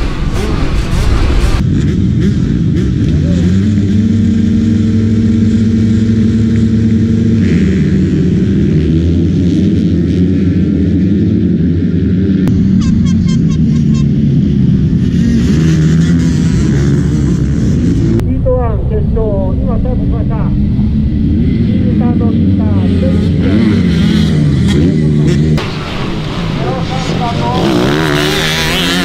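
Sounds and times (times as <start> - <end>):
motocross bike engines: 0.0 - 29.0.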